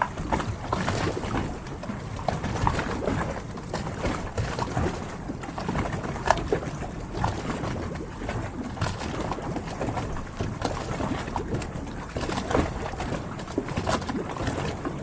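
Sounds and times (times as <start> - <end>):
small splashes and plops: 0.0 - 15.0
water lapping against hulls: 0.0 - 15.0.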